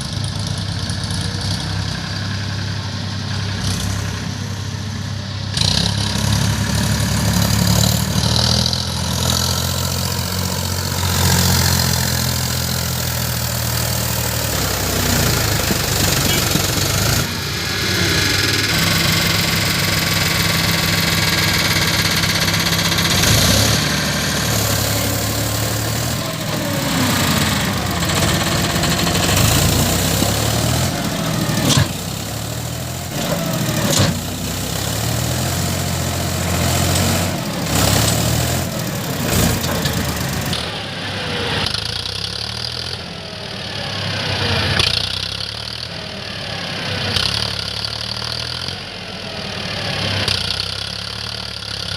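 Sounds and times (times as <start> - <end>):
backhoe diesel engine revving: 0.0 - 51.9.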